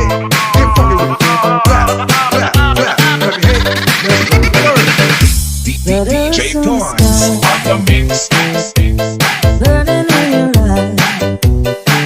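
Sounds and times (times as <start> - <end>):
upbeat dance music: 0.0 - 12.0.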